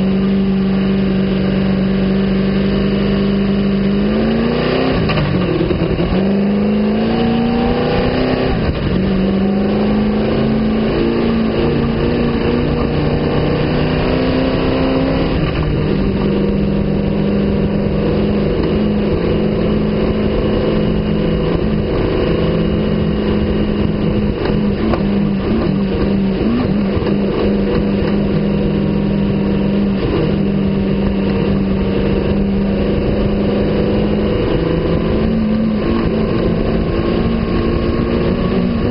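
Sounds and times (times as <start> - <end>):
engine revving through gears: 0.0 - 38.9.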